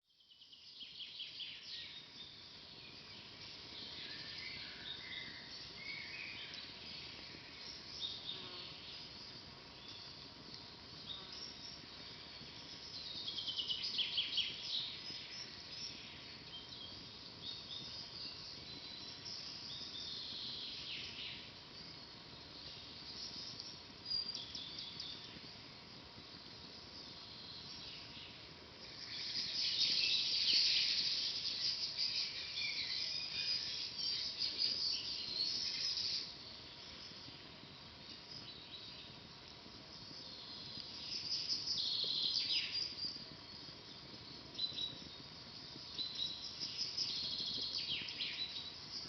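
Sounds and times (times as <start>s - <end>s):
faint steady hiss: 0.1s - 49.0s
small birds singing and trilling: 0.1s - 49.0s.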